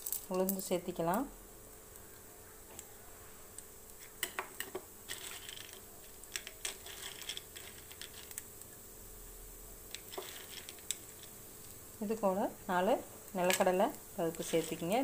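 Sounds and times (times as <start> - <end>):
seeds popping in hot oil: 0.0 - 15.0.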